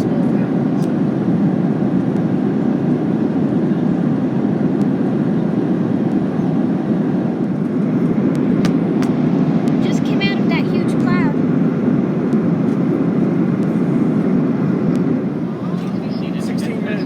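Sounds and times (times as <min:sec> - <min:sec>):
airplane cabin engine roar: 0:00.0 - 0:17.0.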